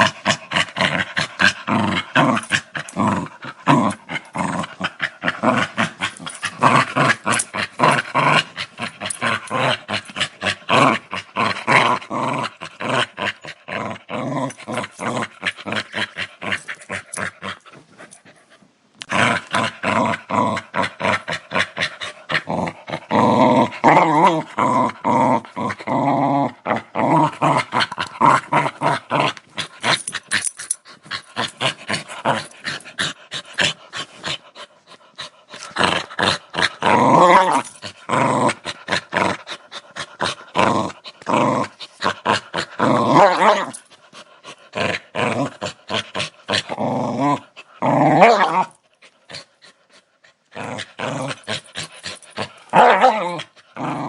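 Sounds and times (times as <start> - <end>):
dog growling aggressively: 0.0 - 18.2, 19.0 - 54.0.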